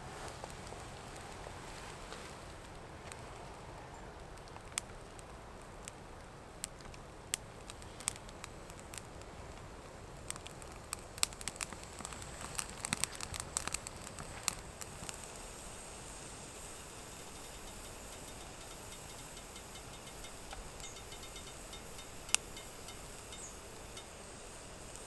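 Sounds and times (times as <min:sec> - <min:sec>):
sharp popping of fire: 0:00.0 - 0:25.0
soft steady hiss: 0:00.0 - 0:25.0
twig fire crackling: 0:00.0 - 0:25.0.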